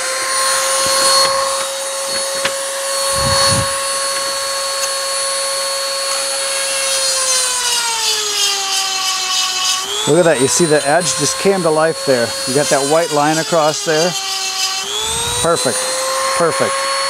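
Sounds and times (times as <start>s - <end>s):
rotary tool grinding whine: 0.0s - 17.0s.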